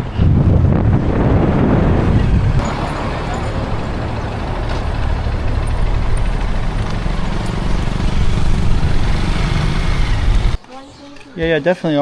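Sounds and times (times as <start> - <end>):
moving vehicle rumble: 0.0 - 11.5.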